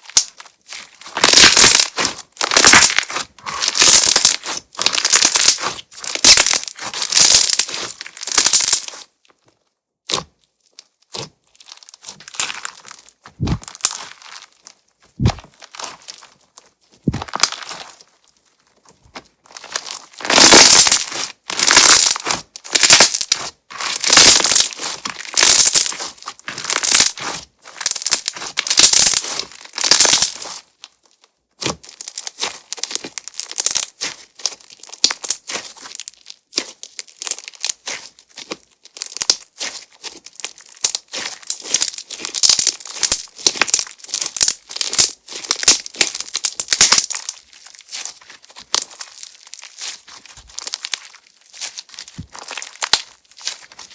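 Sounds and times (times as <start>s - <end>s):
slime crackling and squishing: 0.0s - 53.9s.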